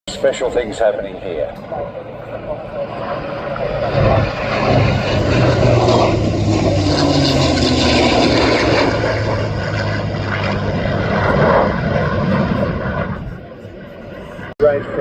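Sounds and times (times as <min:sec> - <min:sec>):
jet engine roar: 0:00.1 - 0:15.0.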